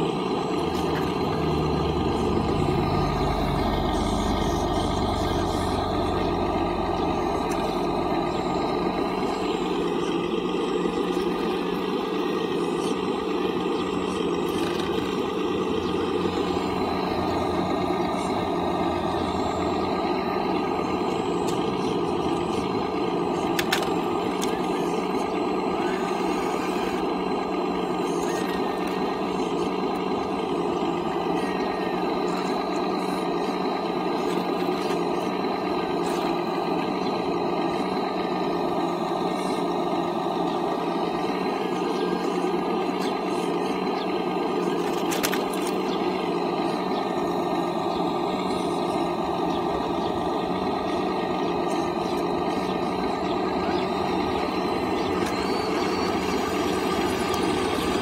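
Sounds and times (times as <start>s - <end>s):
hydraulic drive hum with whine: 0.0s - 58.0s.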